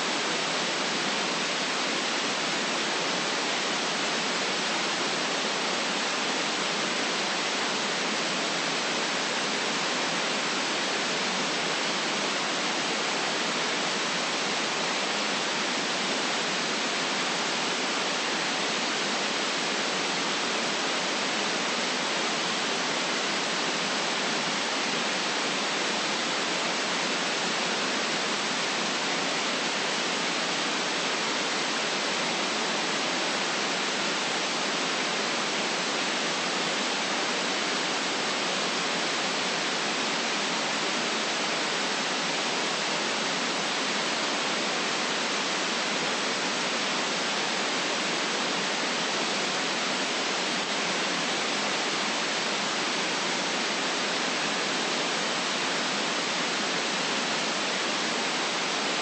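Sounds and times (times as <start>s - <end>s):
electronic white noise hiss: 0.0s - 59.0s.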